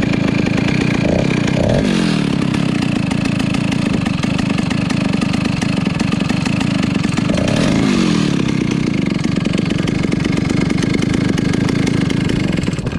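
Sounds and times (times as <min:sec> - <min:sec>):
chainsaw engine running: 0:00.0 - 0:12.9.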